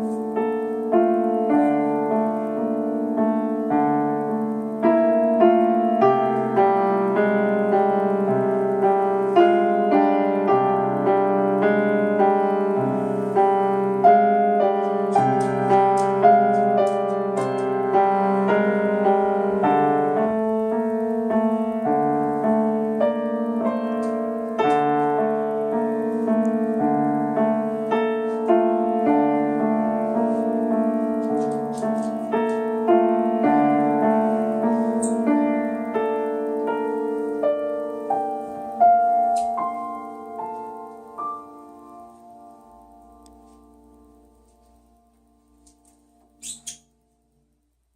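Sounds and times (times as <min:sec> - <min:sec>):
solo piano playing: 0:00.0 - 0:47.9.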